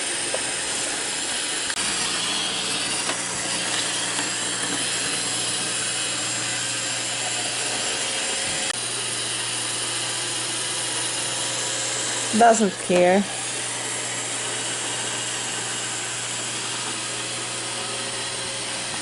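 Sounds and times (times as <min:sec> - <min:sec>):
robot vacuum running: 0:00.0 - 0:19.0.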